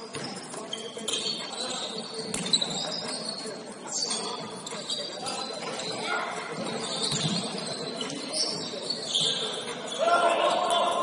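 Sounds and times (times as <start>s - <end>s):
sneakers squealing on court: 0.0s - 11.0s.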